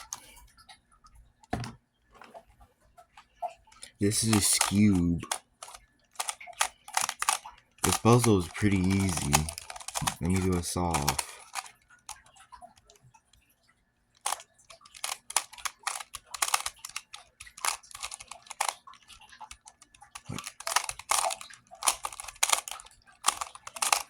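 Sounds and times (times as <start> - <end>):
puzzle layers clicking: 0.0 - 0.4, 3.8 - 13.1, 14.2 - 24.0.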